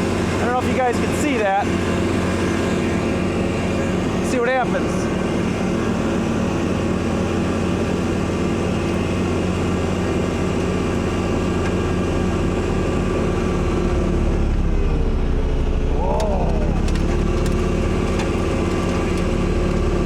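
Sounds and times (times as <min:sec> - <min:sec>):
snowblower through wet snow: 0:00.0 - 0:20.0
tractor diesel engine running: 0:00.0 - 0:20.0.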